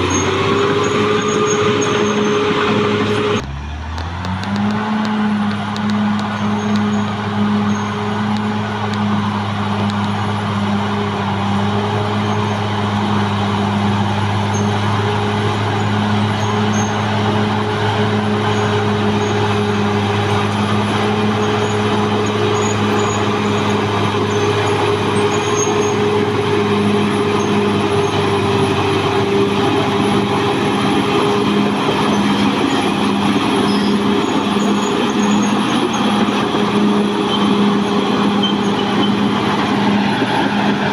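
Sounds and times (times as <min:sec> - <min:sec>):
bulldozer diesel engine humming: 0:00.0 - 0:40.9.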